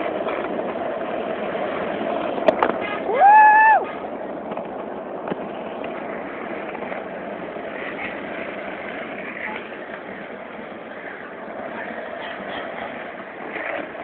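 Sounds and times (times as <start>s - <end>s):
skateboard wheels rolling on asphalt: 0.0s - 14.0s.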